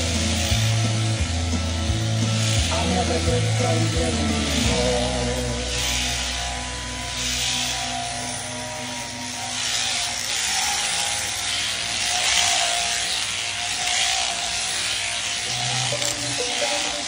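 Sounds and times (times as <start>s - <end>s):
sheep shearing handpiece buzzing: 0.0s - 17.0s.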